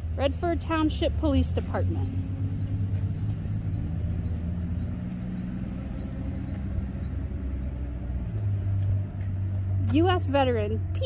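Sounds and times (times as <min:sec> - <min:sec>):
distant road traffic rumble: 0:00.0 - 0:11.0
faint engine hum: 0:00.0 - 0:11.0.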